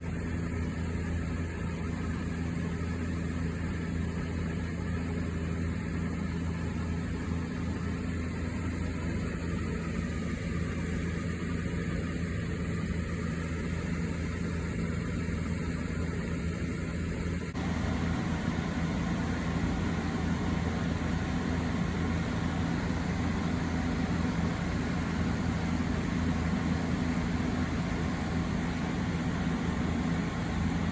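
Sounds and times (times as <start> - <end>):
fan motor hum: 0.0 - 30.9.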